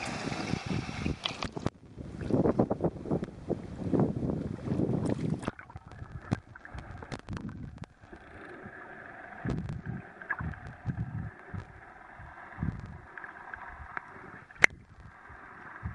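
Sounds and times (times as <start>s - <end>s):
underwater clicks and thumps: 0.0s - 3.4s, 5.0s - 8.4s, 9.4s - 15.9s
water splashing against camera: 0.0s - 3.4s, 4.6s - 15.9s
wind: 0.0s - 15.9s.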